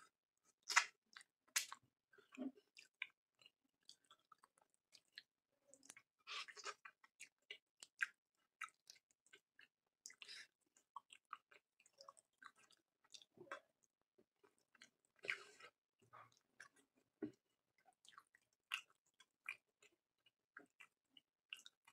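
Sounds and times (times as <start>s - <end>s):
man chewing food: 0.6s - 21.9s.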